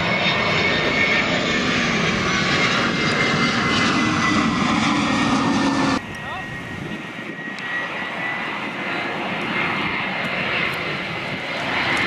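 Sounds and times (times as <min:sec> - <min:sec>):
jet airliner engines rushing: 0:00.0 - 0:12.0.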